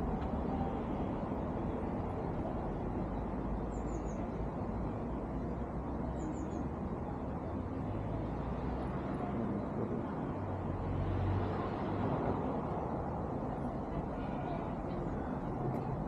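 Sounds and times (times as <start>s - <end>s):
low engine-like hum: 0.0s - 16.0s
low traffic rumble: 0.0s - 16.0s.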